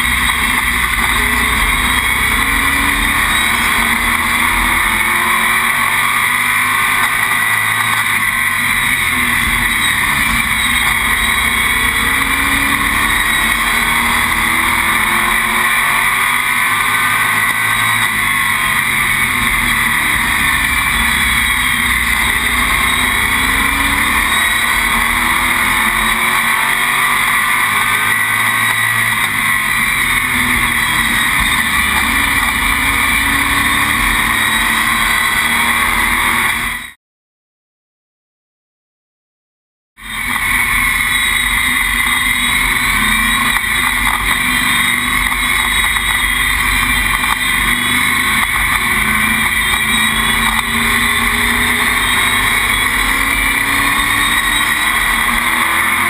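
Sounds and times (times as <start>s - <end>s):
race car engine: 0.0s - 37.0s, 40.0s - 56.0s.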